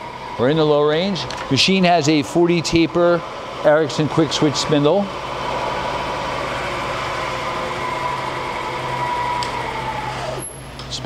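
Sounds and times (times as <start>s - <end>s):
milling machine motor hum and whine: 0.0s - 11.0s.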